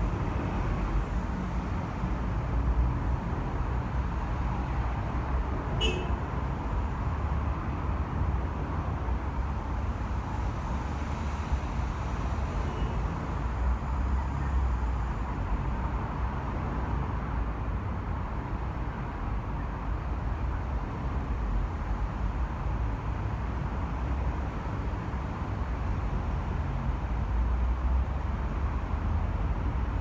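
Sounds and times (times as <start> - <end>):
expressway traffic rumble: 0.0 - 30.0.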